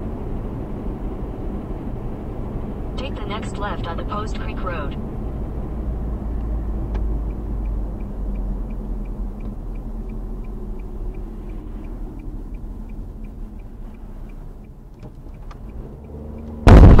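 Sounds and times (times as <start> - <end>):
road and engine rumble in car: 0.0 - 17.0
turn signal ticking: 0.0 - 17.0.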